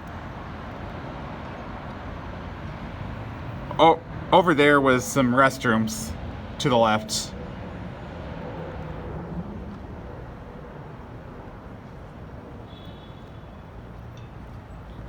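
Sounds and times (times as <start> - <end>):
low urban background rumble: 0.0 - 15.0.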